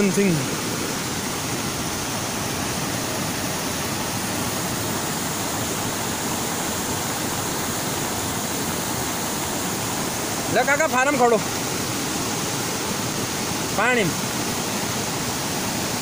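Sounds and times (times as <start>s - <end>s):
flooded river water rushing: 0.0s - 16.0s.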